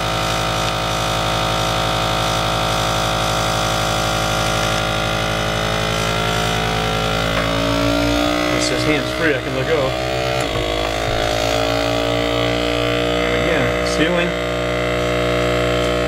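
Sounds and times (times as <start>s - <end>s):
vacuum sealer pump running: 0.0s - 16.0s.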